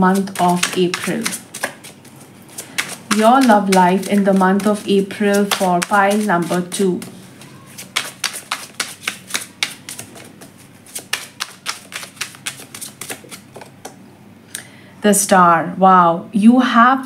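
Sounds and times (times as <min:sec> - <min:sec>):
cards shuffling: 0:00.1 - 0:14.0.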